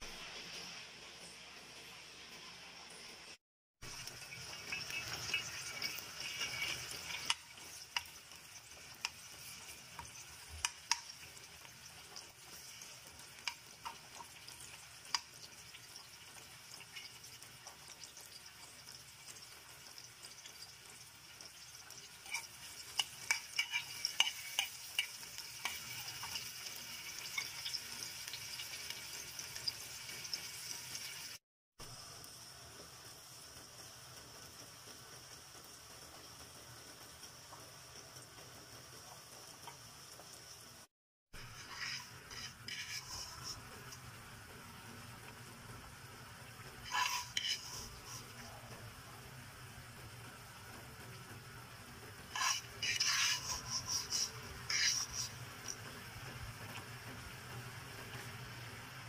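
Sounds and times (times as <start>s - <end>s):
oil sizzling in a frying pan: 0.0s - 59.0s.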